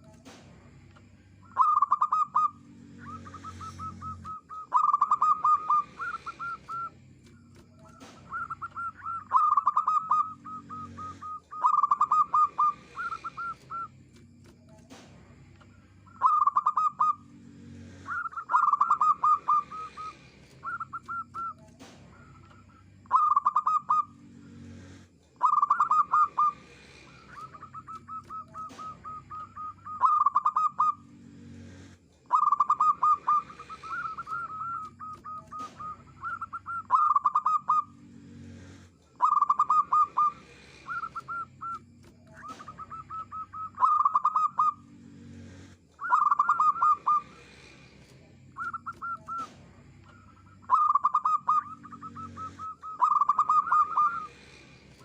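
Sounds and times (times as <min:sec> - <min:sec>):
dove cooing: 0:01.0 - 0:15.1, 0:15.7 - 0:47.9, 0:48.5 - 0:55.0.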